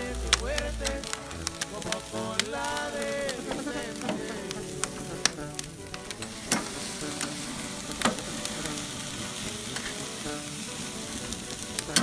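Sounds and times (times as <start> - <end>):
food sizzling on a grill: 0.0 - 12.0
instrumental folk music: 0.0 - 12.0.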